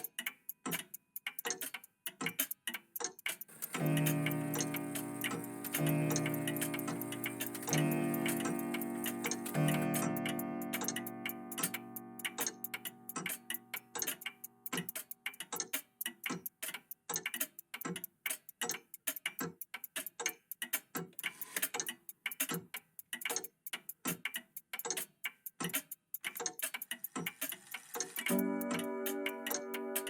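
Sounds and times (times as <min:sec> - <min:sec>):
mechanical clocks ticking: 0:00.0 - 0:30.0.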